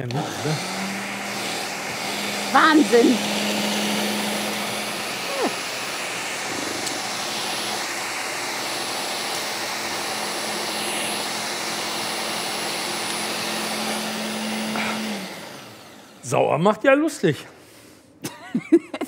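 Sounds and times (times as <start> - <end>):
blender whirring: 0.0 - 16.5.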